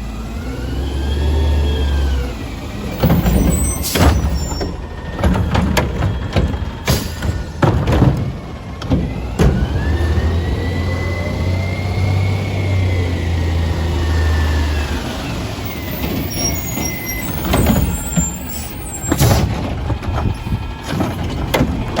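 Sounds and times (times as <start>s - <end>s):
garbage truck engine whining: 0.0s - 22.0s.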